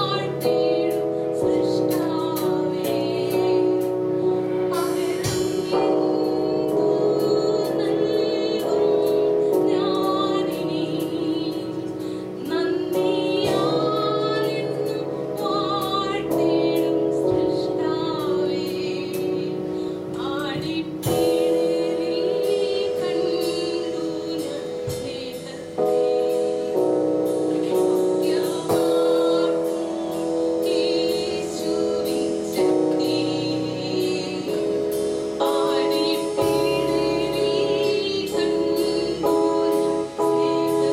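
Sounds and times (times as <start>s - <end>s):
keyboard chords: 0.0s - 40.9s
person singing with vibrato: 0.0s - 40.9s.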